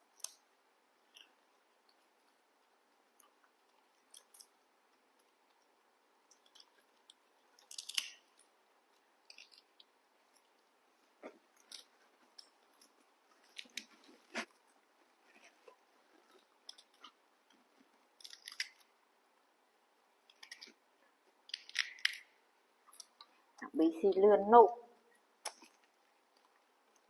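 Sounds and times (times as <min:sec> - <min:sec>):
people chewing crisp fruit: 0:00.0 - 0:19.5, 0:20.1 - 0:23.6, 0:25.1 - 0:27.0.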